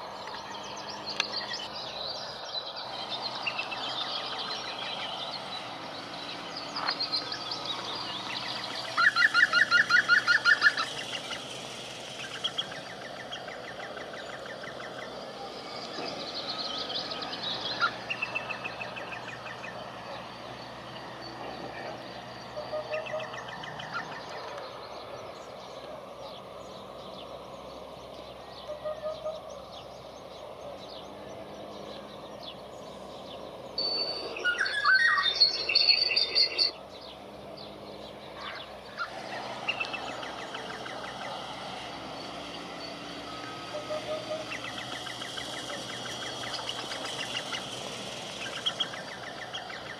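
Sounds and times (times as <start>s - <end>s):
birds calling and chirping: 0.0s - 49.9s
rapid high bird calls: 0.0s - 49.9s.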